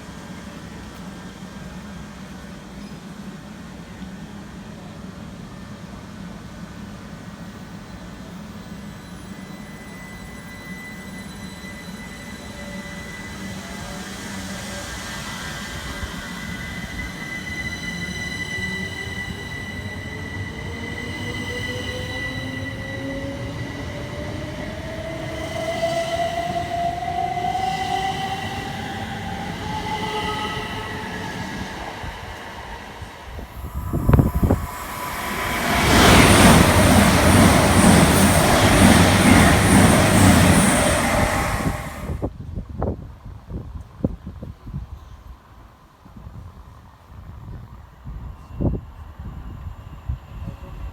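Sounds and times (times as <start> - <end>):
train passing at speed: 0.0 - 43.0.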